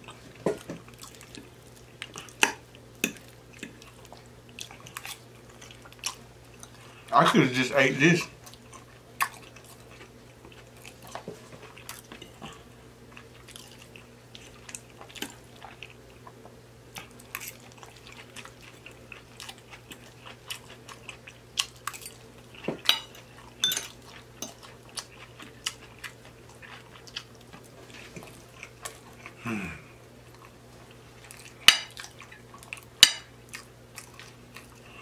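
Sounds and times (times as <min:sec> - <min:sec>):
chewing soft food: 0:00.0 - 0:07.1, 0:08.2 - 0:35.0.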